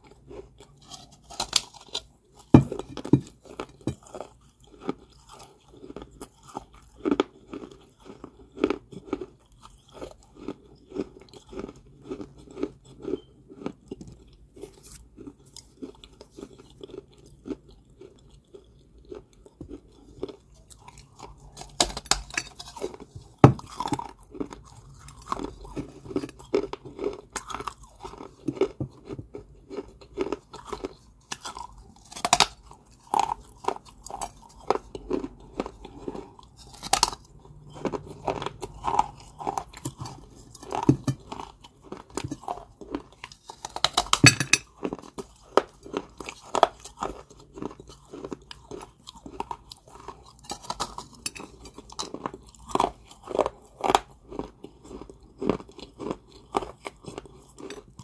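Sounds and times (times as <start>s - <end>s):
person chewing and crunching clay: 0.0s - 58.0s.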